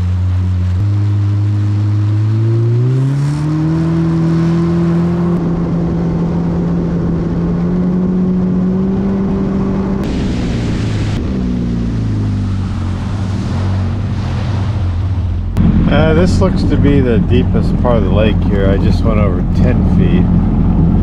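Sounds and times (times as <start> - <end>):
water wash: 0.0 - 21.0
watercraft engine throttling up: 0.0 - 21.0.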